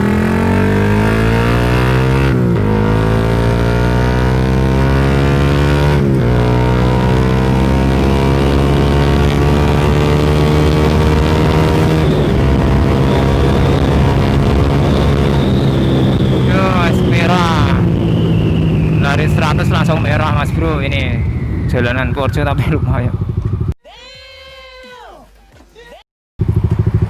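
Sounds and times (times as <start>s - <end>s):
motorcycle engine accelerating hard: 0.0s - 23.8s, 26.4s - 27.0s.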